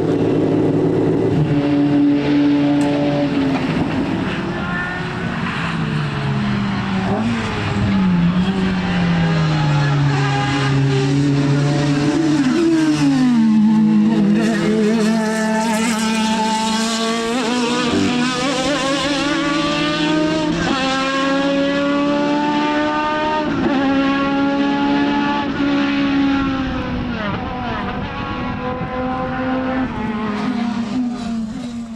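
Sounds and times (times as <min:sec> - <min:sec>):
racing car engine upshifting: 0:00.0 - 0:31.9.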